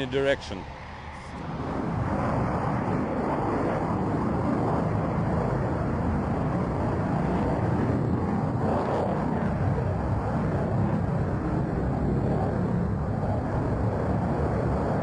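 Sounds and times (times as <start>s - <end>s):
fighter jet roaring: 0.0s - 15.0s.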